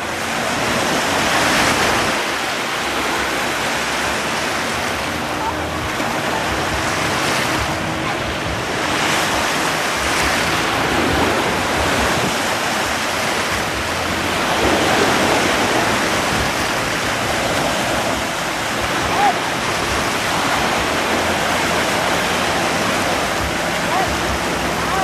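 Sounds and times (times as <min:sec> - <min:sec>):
surf washing in shallows: 0:00.0 - 0:25.0.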